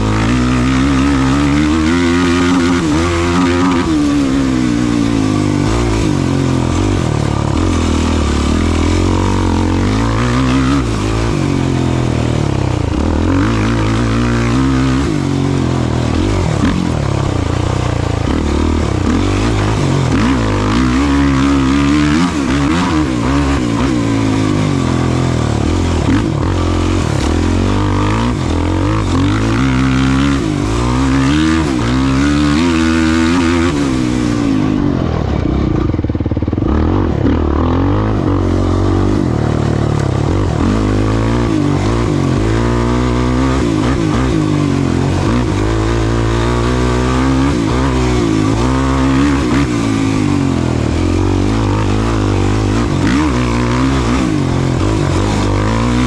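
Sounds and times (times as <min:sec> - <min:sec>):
race vehicle engine revving: 0:00.0 - 0:56.0.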